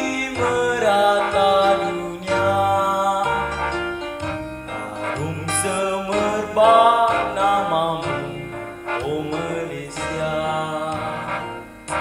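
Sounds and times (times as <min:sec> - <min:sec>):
instrumental backing track: 0:00.0 - 0:12.0
man singing into a microphone: 0:00.0 - 0:12.0.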